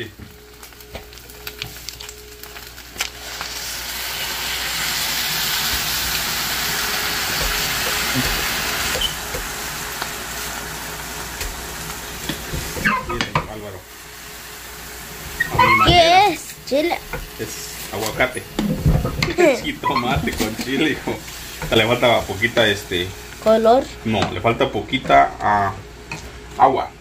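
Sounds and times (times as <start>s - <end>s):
salsa sizzling in hot pan: 0.0s - 26.8s.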